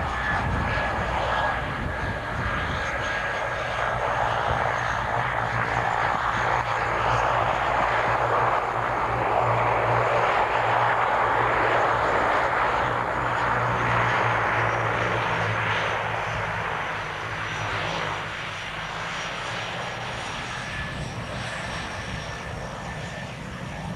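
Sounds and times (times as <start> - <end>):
faint high engine whine: 0.0 - 23.9
turboprop engines droning: 0.0 - 23.9.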